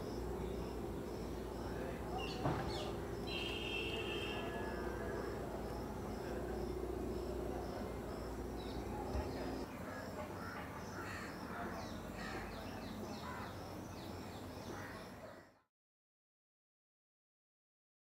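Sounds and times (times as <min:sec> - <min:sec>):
birds calling: 0:00.0 - 0:15.4.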